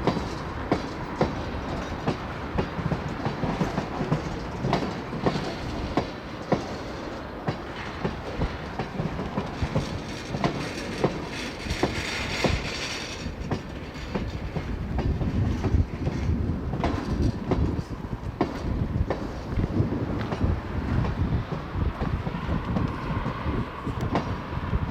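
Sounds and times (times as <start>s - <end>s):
train wheels clicking over rail joints: 0.0s - 24.8s
train rumble: 0.0s - 24.9s.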